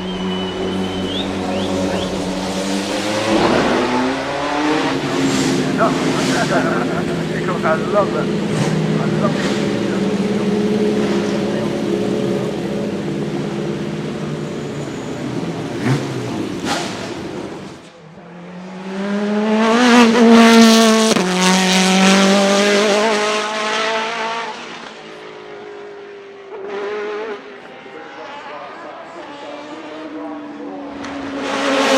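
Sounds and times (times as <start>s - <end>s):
car passing close: 0.0s - 31.9s
racing car engine at high revs: 0.0s - 31.9s.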